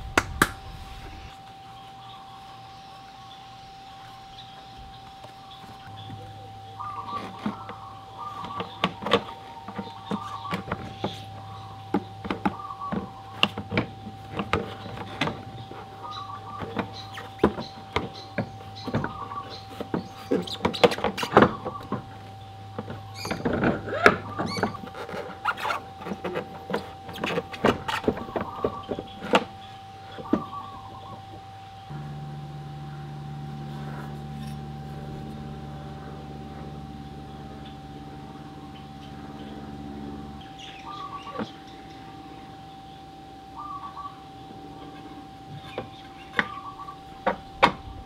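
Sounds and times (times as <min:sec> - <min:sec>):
faint steady tone: 0:00.0 - 0:48.0.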